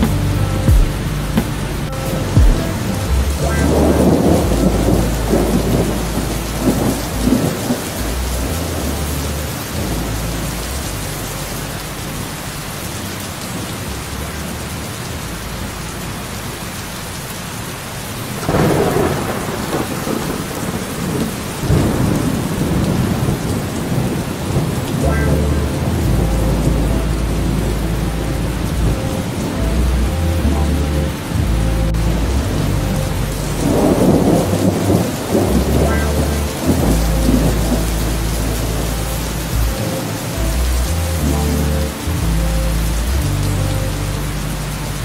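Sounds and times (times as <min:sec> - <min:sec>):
thunder rumbling: 0:00.0 - 0:16.1, 0:18.2 - 0:45.0
steady rain falling: 0:00.0 - 0:45.0.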